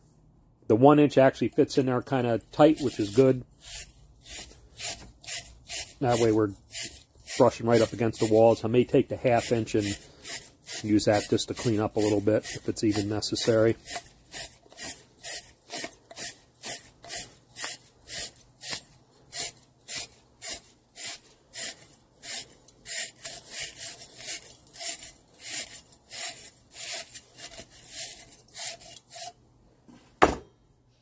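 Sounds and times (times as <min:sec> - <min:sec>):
wire brush scraping inside tube: 0:01.4 - 0:29.4.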